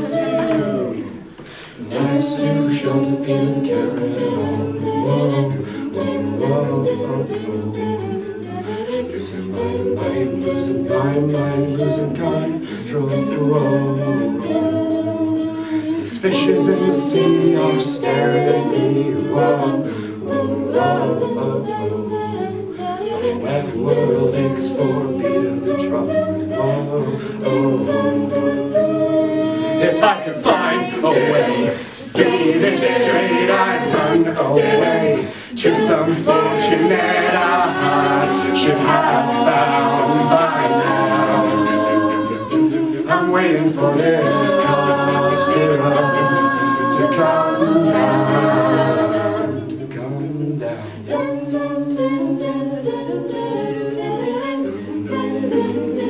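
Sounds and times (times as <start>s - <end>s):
a cappella group singing: 0.0s - 56.0s.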